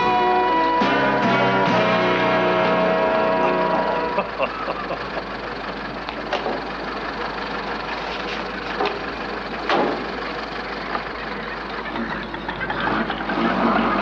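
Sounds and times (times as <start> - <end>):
car engine running: 0.0 - 14.0
engine knocks and clatters: 0.0 - 14.0.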